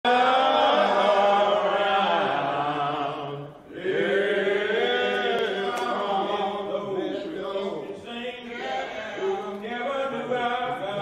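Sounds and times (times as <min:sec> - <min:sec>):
men singing a hymn: 0:00.0 - 0:11.0.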